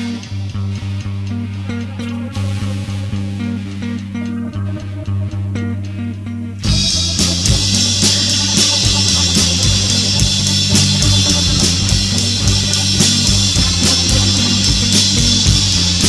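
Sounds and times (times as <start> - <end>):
instrumental rock band playing: 0.0 - 16.0.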